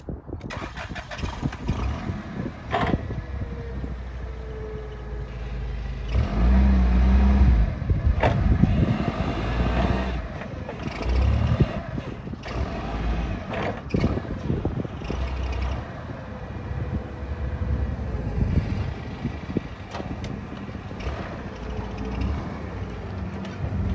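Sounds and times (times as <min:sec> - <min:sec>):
forklift engine revving: 0:00.5 - 0:23.9.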